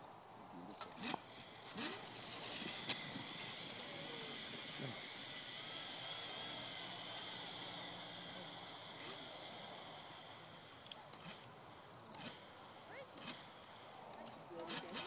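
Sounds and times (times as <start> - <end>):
lure line motor whine: 0.7 - 15.0.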